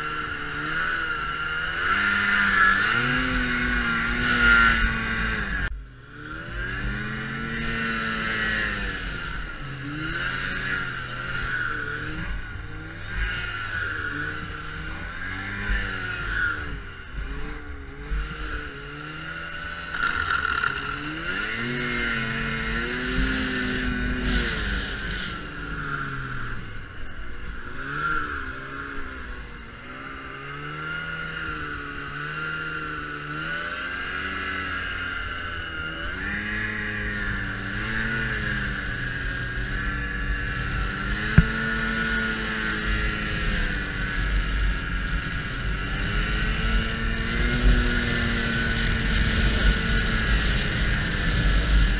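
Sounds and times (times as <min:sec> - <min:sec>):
snowmobile engine revving: 0:00.0 - 0:51.9
steady high whine: 0:00.0 - 0:51.9.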